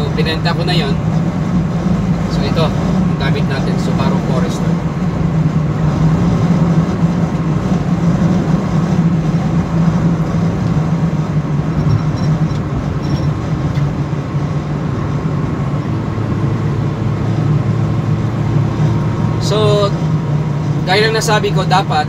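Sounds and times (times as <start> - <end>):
car engine hum: 0.0 - 22.0.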